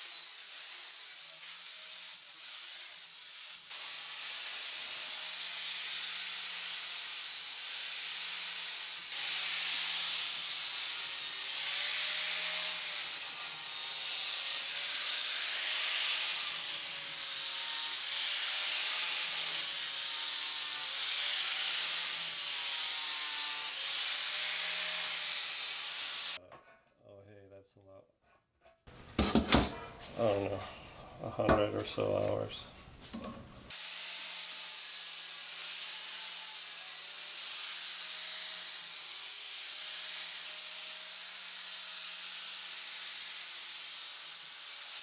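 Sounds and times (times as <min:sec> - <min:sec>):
angle grinder grinding metal: 0:00.0 - 0:26.4, 0:28.9 - 0:30.8, 0:31.4 - 0:45.0.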